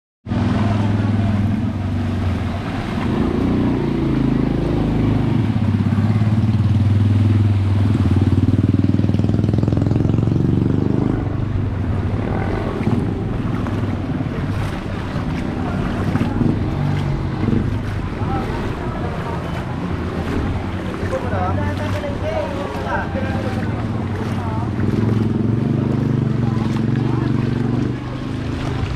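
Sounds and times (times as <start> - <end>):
motorcycle tricycle engine: 0.3 - 28.9
water sloshing: 0.3 - 28.9
water splashing off wheels: 0.3 - 28.9.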